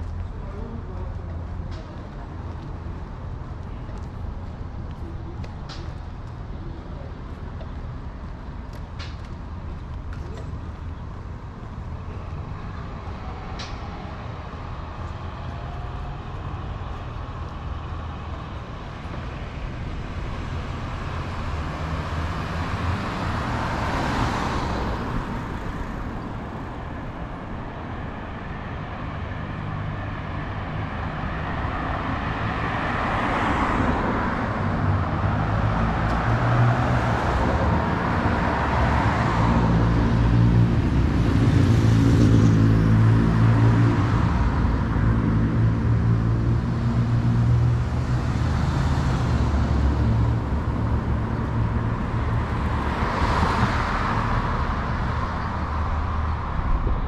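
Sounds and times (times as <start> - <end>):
cars going by: 0.0 - 57.0
traffic low rumble: 0.0 - 57.0.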